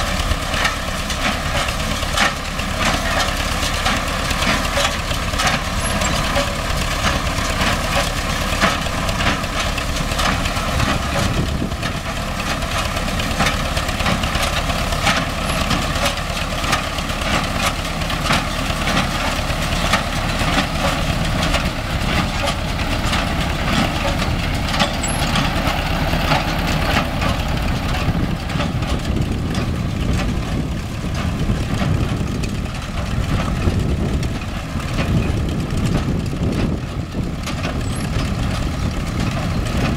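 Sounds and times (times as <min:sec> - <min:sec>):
hay baler clattering: 0:00.0 - 0:39.9
tractor diesel engine running: 0:00.0 - 0:39.9.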